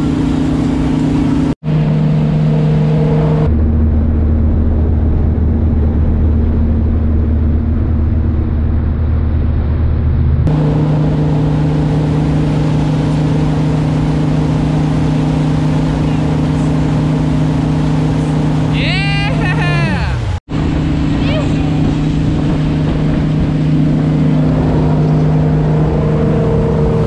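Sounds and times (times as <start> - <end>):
boat engine running: 0.0 - 27.0
water rushing in wake: 0.0 - 27.0.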